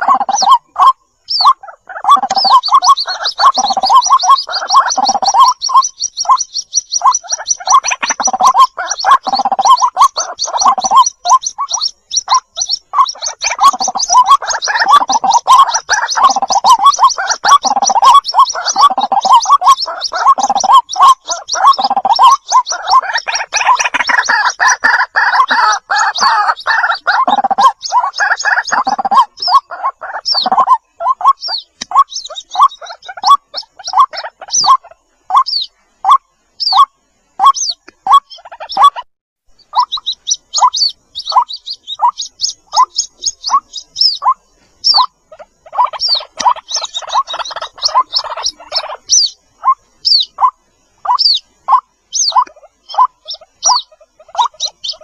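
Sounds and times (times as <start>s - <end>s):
bird throaty repeated calls: 0.0s - 55.0s
chicks peeping: 0.0s - 55.0s.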